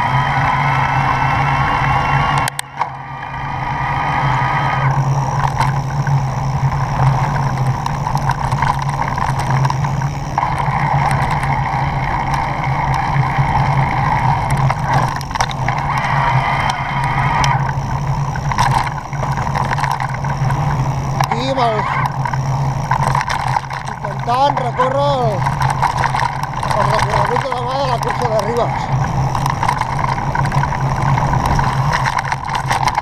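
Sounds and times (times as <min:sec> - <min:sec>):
bike tyre rumble: 0:00.0 - 0:33.0
steady low hum: 0:00.0 - 0:33.0
wind on camera: 0:00.0 - 0:33.0.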